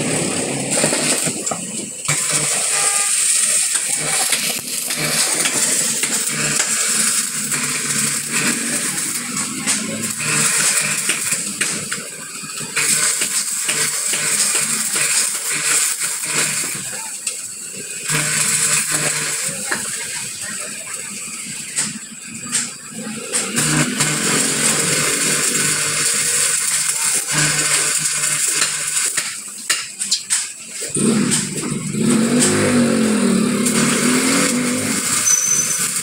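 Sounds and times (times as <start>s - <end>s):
welding arc crackling: 0.0s - 36.0s.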